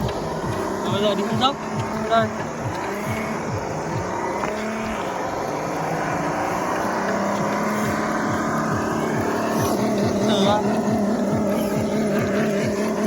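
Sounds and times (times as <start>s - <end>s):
toy truck electric motor whining: 0.0s - 13.0s.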